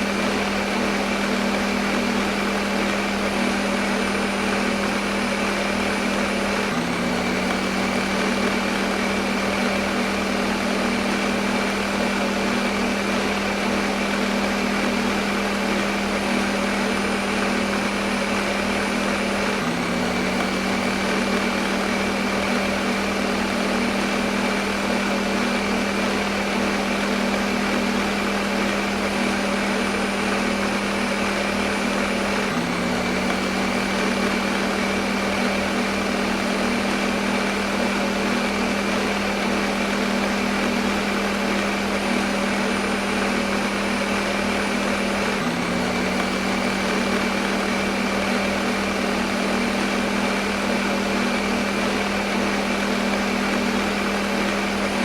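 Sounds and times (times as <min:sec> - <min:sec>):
electric blender running: 0:00.0 - 0:55.0.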